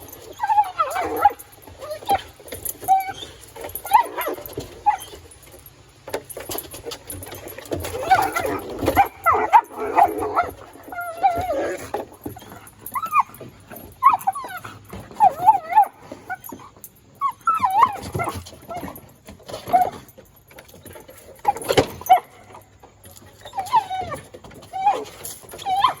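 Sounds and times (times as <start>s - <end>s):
dog whining and yipping: 0.0s - 5.5s, 6.4s - 26.0s.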